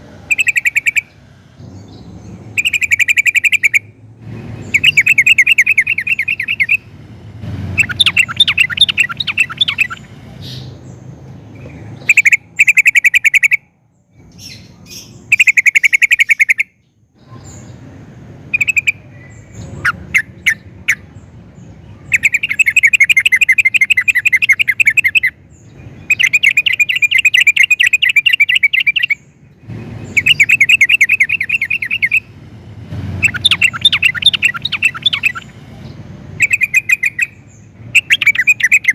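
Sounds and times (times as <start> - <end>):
bird singing bubbling phrases: 0.2 - 3.9, 4.6 - 6.9, 7.8 - 10.8, 11.8 - 17.8, 18.5 - 32.3, 33.2 - 35.6, 36.3 - 38.9.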